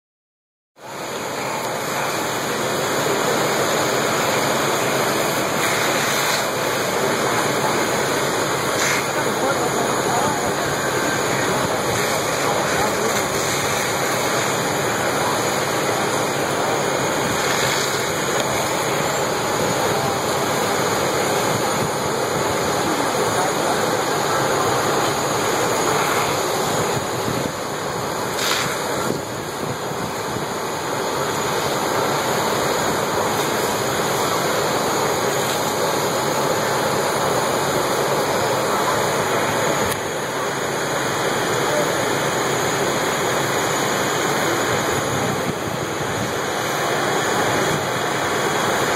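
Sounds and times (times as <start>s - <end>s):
water streams from hoses: 0.8s - 48.9s.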